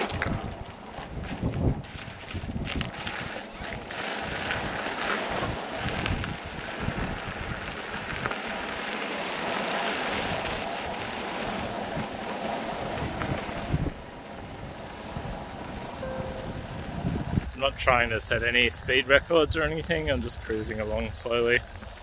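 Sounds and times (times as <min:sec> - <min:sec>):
wind buffeting microphone: 0:00.0 - 0:08.7, 0:10.1 - 0:20.3.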